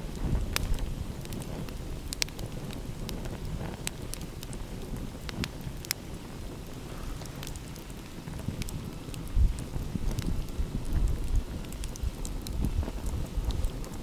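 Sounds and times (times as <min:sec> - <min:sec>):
sharp pops from burning wood: 0:00.0 - 0:14.0
wood fire crackling: 0:00.0 - 0:14.0.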